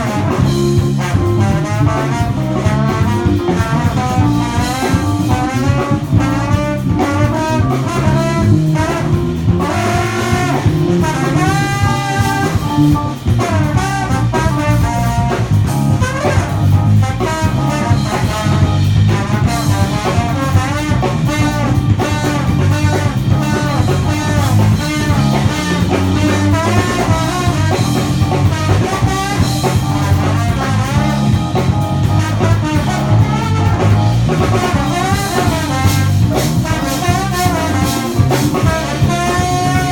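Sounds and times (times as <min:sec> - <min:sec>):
bass: 0:00.0 - 0:39.9
drum kit: 0:00.0 - 0:39.9
guitar: 0:00.0 - 0:39.9
horns playing melody: 0:00.0 - 0:39.9.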